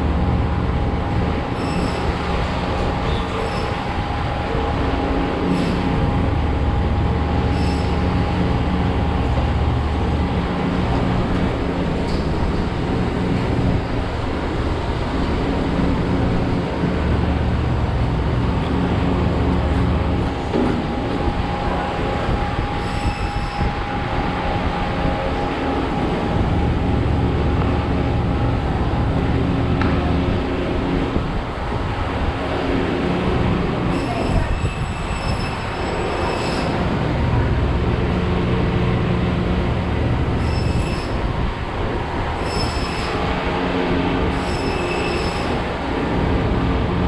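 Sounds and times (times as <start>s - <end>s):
low machinery hum: 0.0s - 47.0s.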